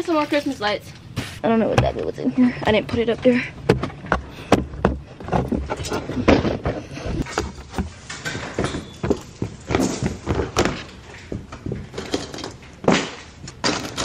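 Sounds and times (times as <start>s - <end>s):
storage containers knocking and clattering: 1.7s - 14.0s.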